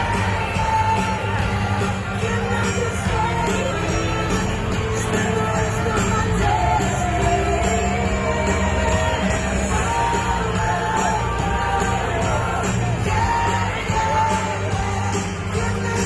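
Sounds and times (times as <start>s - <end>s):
crowd shouting and whooping: 0.0s - 16.0s
loud music with heavy bass: 0.0s - 16.0s
person singing: 0.0s - 16.0s.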